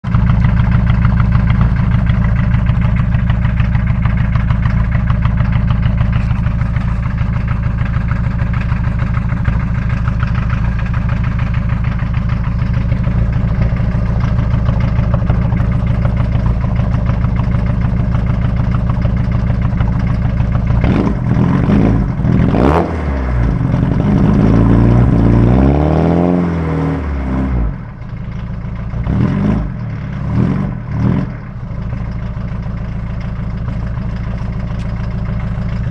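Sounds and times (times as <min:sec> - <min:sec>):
diesel engine idling and revving: 0:00.0 - 0:35.9.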